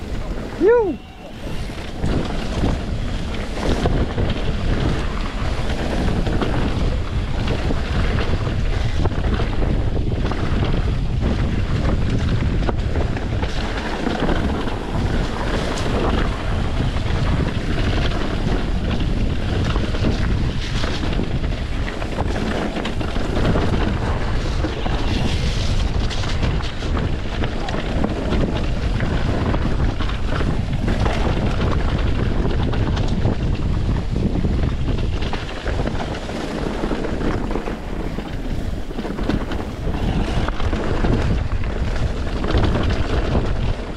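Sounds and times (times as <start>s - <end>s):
tyres on dirt trail: 0.0s - 43.9s
wind buffeting microphone: 0.0s - 43.9s
bike knocks and rattles: 1.7s - 43.9s.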